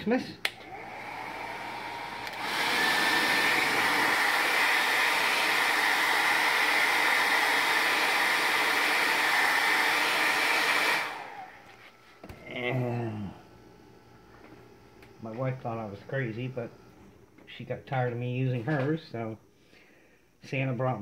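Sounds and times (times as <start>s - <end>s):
blow dryer running: 0.0s - 17.1s.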